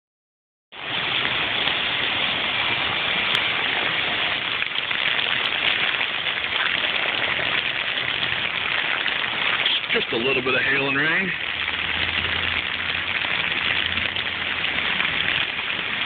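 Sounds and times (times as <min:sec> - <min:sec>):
heavy rain and hail: 0:00.7 - 0:16.0.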